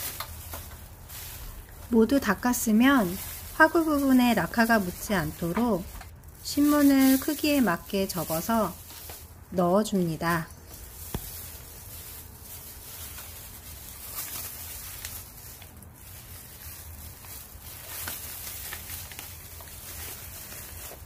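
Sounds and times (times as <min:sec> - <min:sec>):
newspaper rustling: 0:00.0 - 0:21.0.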